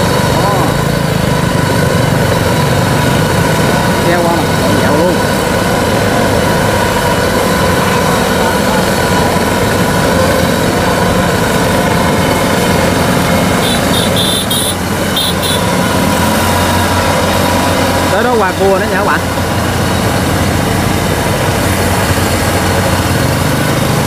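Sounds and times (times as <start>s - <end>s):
crawler tracks on paved road: 0.0s - 24.0s
diesel engine running: 0.0s - 24.0s.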